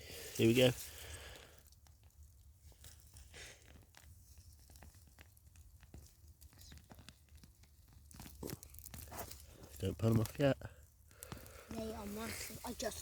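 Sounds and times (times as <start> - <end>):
plant rustling and crackling: 0.0 - 13.0.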